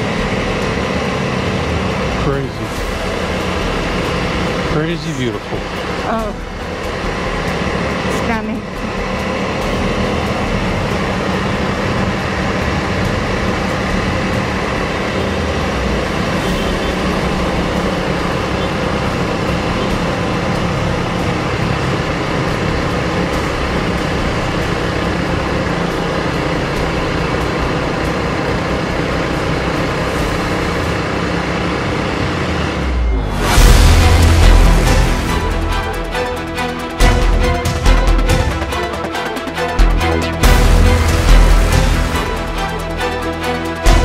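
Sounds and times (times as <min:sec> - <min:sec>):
motorcycle engine running: 0:00.0 - 0:44.0
wind and road noise: 0:00.0 - 0:44.0.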